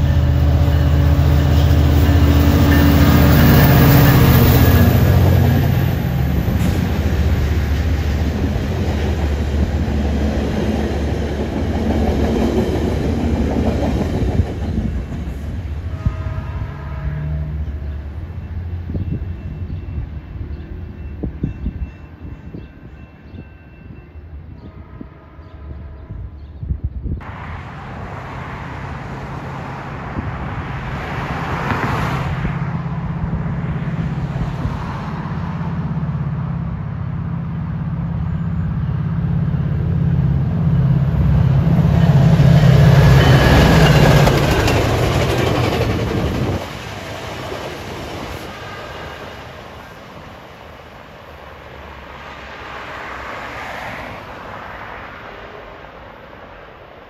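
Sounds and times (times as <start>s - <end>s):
diesel locomotive engine drone: 0.0s - 57.0s
train coaches rolling rumble: 0.0s - 57.0s.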